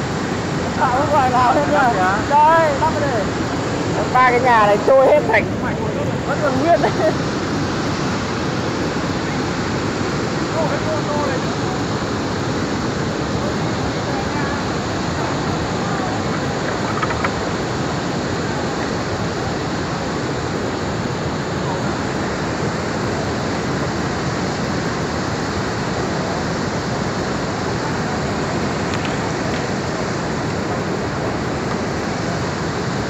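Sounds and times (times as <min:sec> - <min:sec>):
floodwater rushing: 0:00.0 - 0:33.0.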